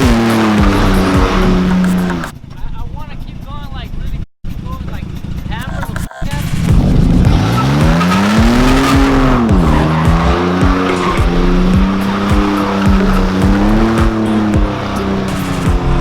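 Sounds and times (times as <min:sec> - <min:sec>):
truck engine revving: 0:00.0 - 0:02.6, 0:04.4 - 0:16.0
tyres squealing and skidding: 0:00.0 - 0:03.6, 0:04.5 - 0:16.0.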